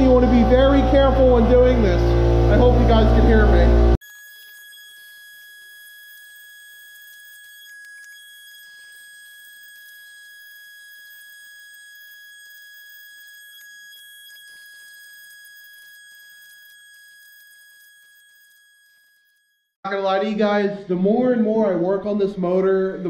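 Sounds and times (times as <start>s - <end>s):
pneumatic grinder whining: 0.0s - 19.8s.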